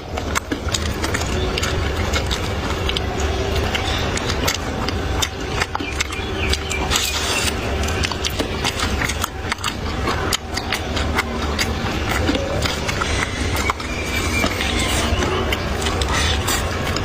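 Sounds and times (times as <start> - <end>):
chewing and crunching: 0.0 - 17.0
steady low hum: 0.0 - 17.0.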